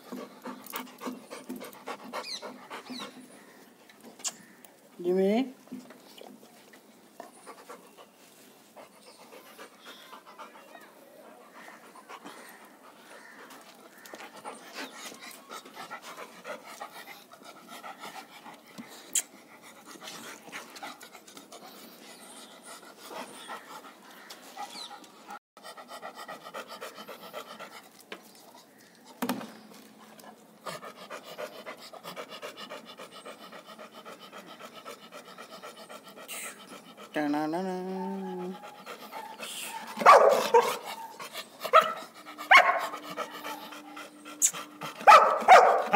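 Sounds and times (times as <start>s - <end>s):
dog panting: 0.0s - 3.4s, 7.2s - 28.6s, 30.0s - 45.9s.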